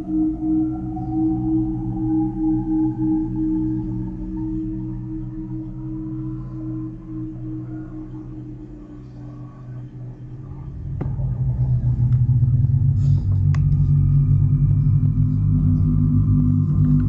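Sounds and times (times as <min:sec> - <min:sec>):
deep drone of low tones: 0:00.0 - 0:17.0.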